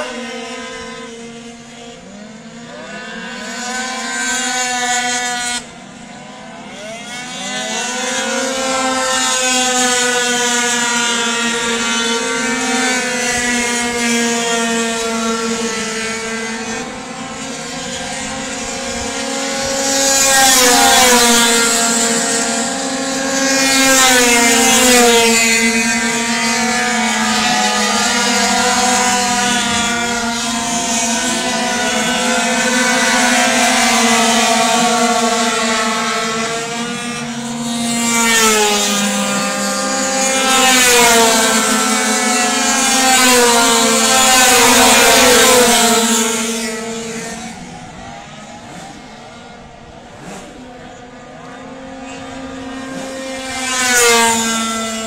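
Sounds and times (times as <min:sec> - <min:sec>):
racing scooter engines: 0:00.0 - 0:55.0
scooter passing by: 0:00.0 - 0:55.0.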